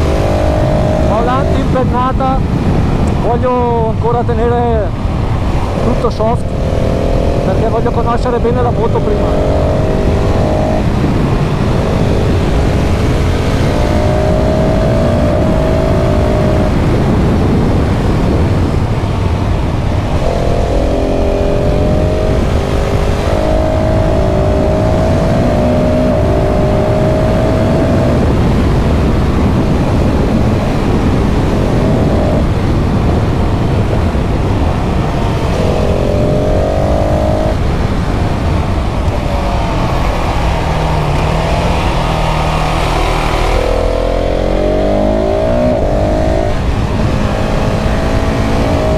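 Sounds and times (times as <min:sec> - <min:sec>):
heavy wind rush: 0:00.0 - 0:48.9
motorcycle engine accelerating: 0:00.0 - 0:48.9.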